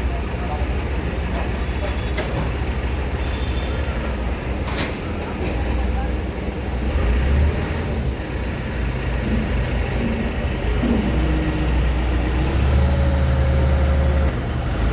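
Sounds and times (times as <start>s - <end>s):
heavy diesel engine running: 0.0s - 14.9s.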